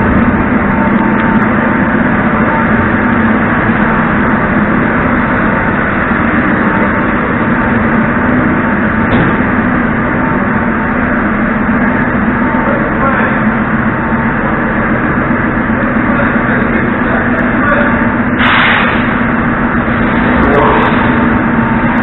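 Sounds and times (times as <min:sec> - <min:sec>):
thin steady whine: 0:00.0 - 0:22.0
train machinery hum and rumble: 0:00.0 - 0:22.0.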